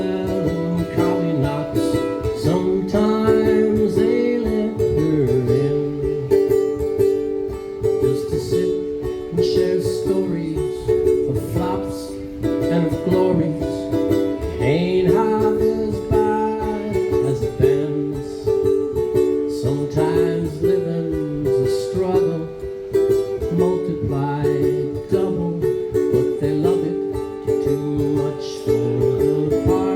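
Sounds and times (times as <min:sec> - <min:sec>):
plucked string instruments: 0:00.0 - 0:29.9.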